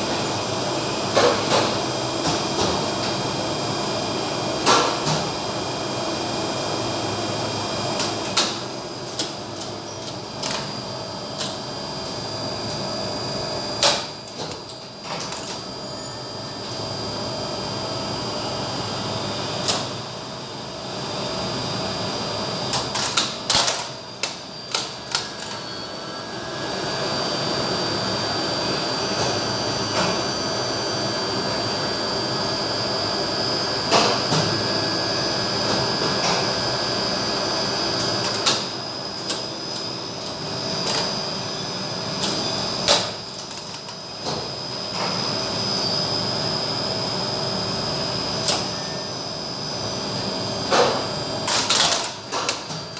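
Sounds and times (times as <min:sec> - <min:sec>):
machine-room hum: 0:00.0 - 0:52.9.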